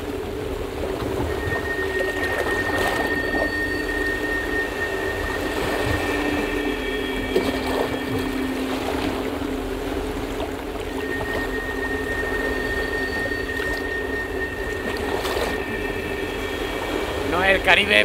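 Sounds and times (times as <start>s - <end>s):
droning tones over loudspeakers: 0.0s - 18.0s
steady wash of noise: 0.0s - 18.0s.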